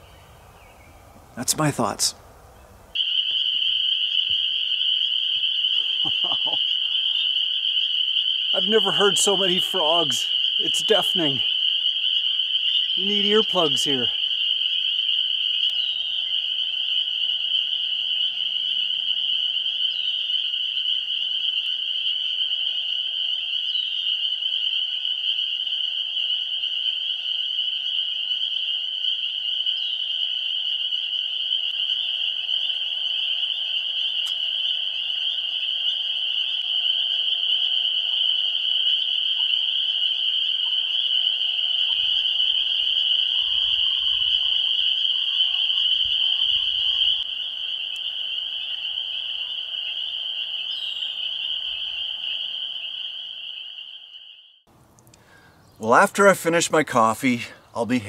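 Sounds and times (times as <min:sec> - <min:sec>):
lower frog calls: 0:02.6 - 0:58.0
chorus of frogs calling: 0:02.9 - 0:54.6.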